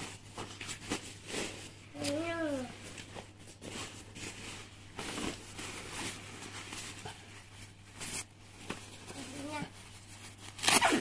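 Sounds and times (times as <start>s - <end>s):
sleeping bag rustling and crinkling: 0.0s - 11.0s.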